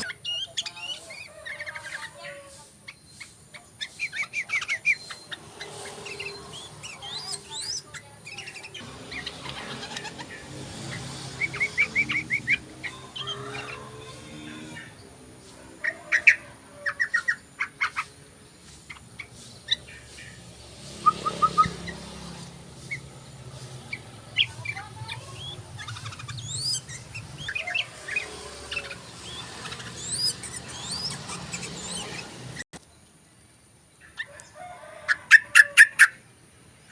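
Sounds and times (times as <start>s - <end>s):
bird chattering and whistling: 0.0s - 32.6s, 35.1s - 36.2s.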